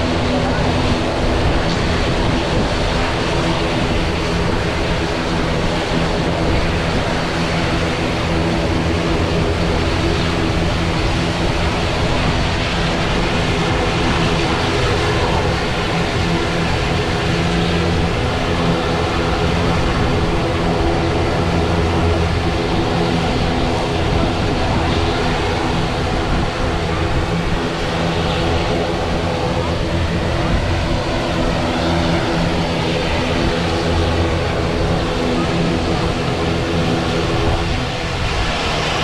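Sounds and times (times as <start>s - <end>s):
airliner engines running: 0.0s - 39.0s.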